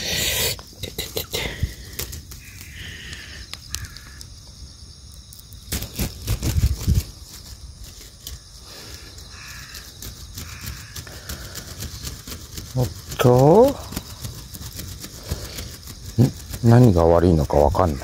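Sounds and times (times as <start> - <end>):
rustling: 0.0 - 4.2, 5.6 - 18.0
footsteps through grass: 1.6 - 4.2, 5.7 - 18.0.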